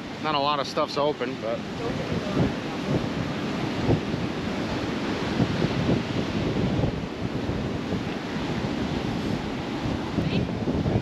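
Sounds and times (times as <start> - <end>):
ocean surf waves: 0.0 - 11.0
wind buffeting microphone: 0.0 - 11.0.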